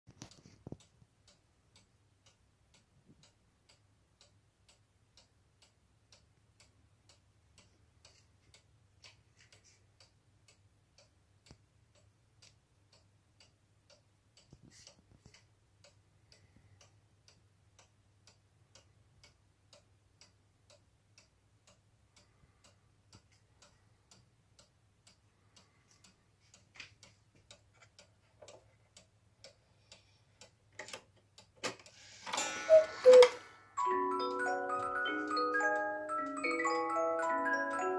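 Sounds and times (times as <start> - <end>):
clock ticking: 0.1 - 37.9.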